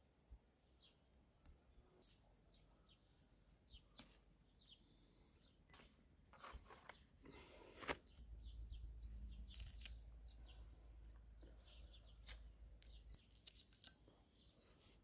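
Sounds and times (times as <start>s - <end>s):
small birds chirping: 0.5s - 15.0s.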